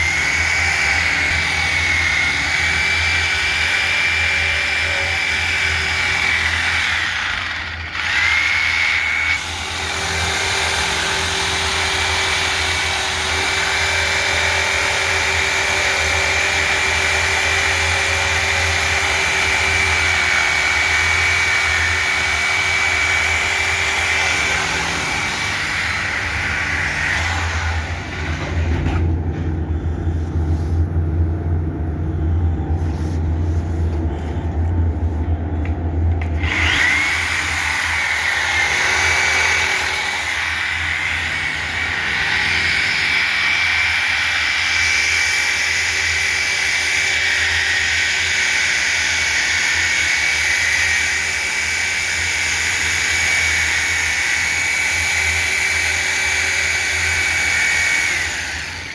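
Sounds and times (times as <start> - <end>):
power tool motor whining: 0.0 - 29.1, 36.1 - 58.9.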